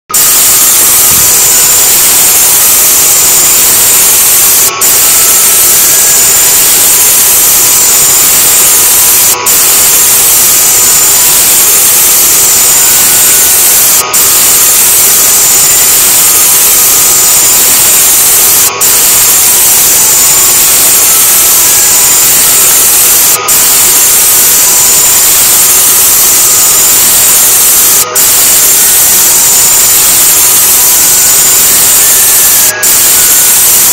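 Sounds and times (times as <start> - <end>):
loud static hiss: 0.2 - 33.9.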